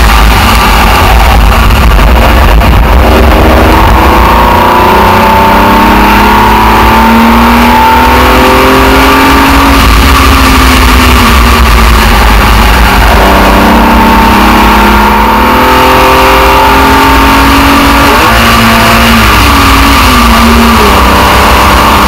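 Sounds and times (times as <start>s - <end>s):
race car engine at speed: 0.0s - 22.0s.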